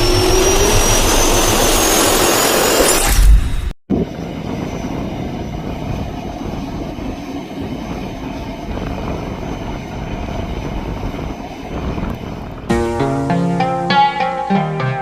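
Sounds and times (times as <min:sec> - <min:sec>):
jet engines rumbling: 0:00.0 - 0:02.9, 0:03.5 - 0:13.9.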